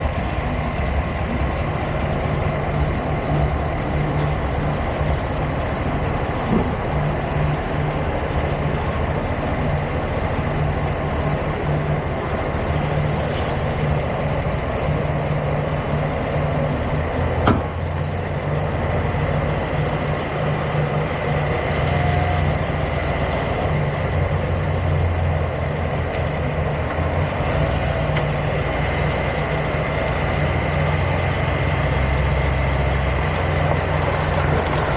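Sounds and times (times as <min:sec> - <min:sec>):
engine humming: 0:00.0 - 0:34.9.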